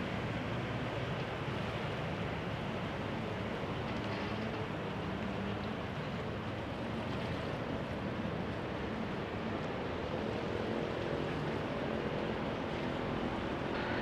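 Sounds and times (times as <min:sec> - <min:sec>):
boat engine hum: 0:00.0 - 0:14.0.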